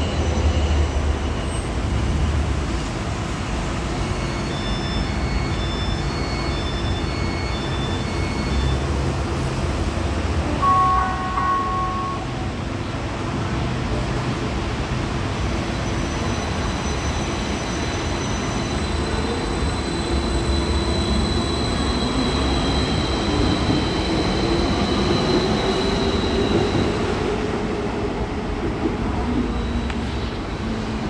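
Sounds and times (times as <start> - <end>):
tram rumbling on rails: 0.0 - 31.0.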